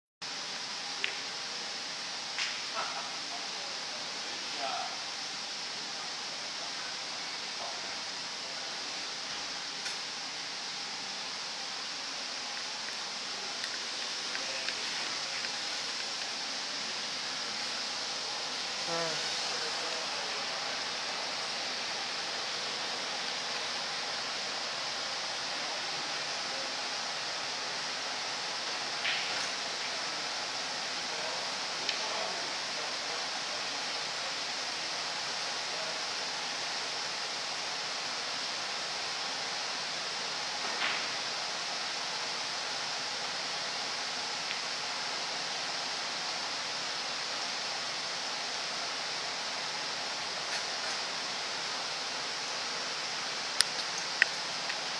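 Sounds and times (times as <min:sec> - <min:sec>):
steady hiss: 0:00.2 - 0:54.9.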